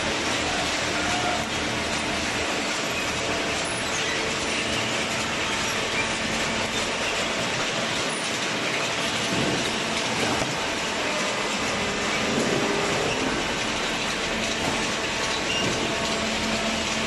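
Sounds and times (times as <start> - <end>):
cardboard baler running: 0.0 - 17.0.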